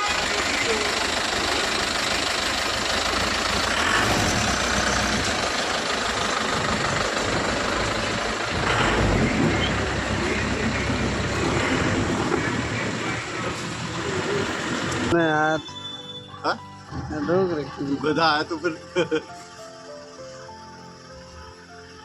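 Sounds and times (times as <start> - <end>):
vehicle engine running: 0.0 - 15.3, 16.3 - 22.0
road noise: 0.0 - 22.0.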